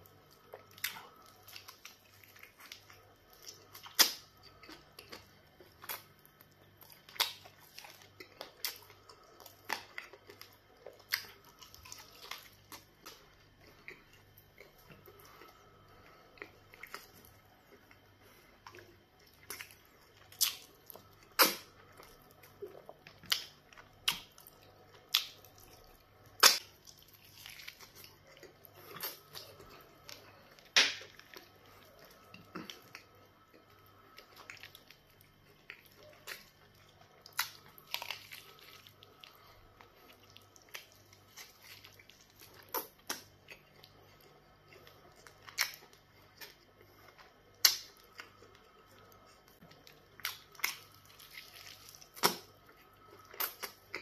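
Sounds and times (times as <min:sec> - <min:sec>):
soft food squelching: 0:00.0 - 0:54.0
wet chewing and lip smacking: 0:00.0 - 0:54.0.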